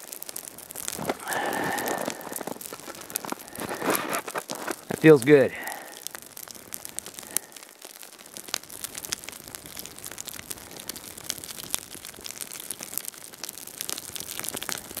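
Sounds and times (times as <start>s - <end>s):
small fire crackling and popping: 0.0s - 15.0s.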